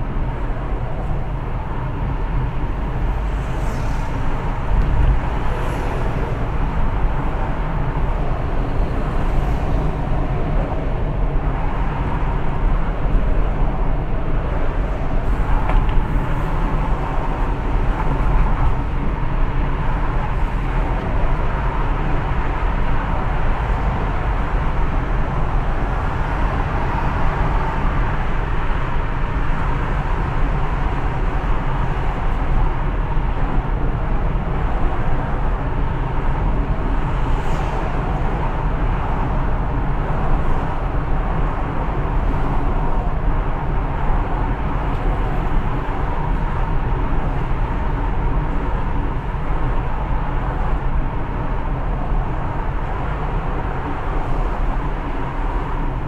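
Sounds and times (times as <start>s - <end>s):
car road noise rumble: 0.0s - 56.0s.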